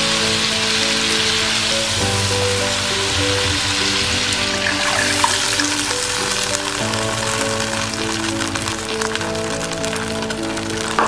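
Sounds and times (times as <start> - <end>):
food sizzling in a wok: 0.0 - 11.0
soft background music: 0.0 - 11.0
sauce being poured: 1.1 - 11.0.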